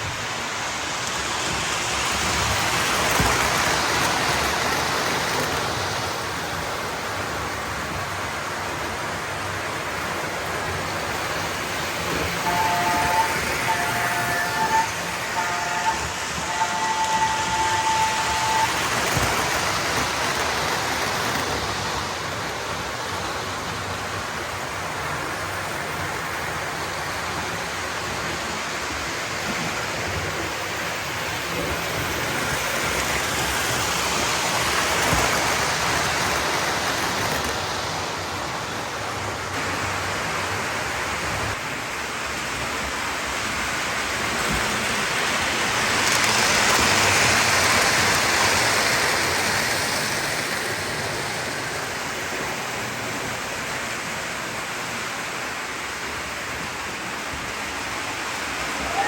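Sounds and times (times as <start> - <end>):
model train wheels rolling on rail: 0.0 - 59.0.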